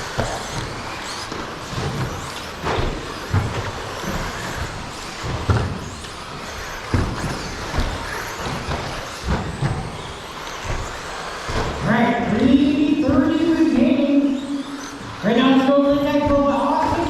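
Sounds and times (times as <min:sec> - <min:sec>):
electric motor and gear whines: 0:00.0 - 0:17.0.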